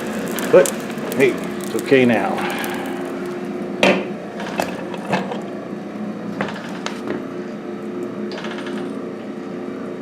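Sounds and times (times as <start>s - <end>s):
stoker motor hum: 0.0s - 9.9s.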